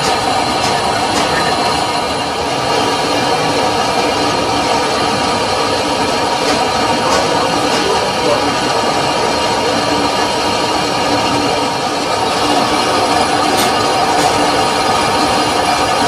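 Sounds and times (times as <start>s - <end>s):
lathe hum and whir: 0.0s - 16.0s.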